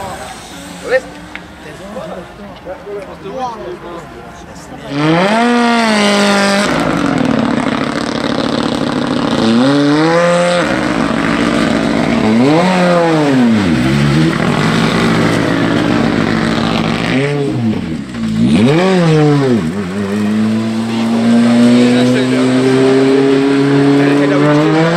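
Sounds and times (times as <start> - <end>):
rally car engine revving: 4.9 - 24.9.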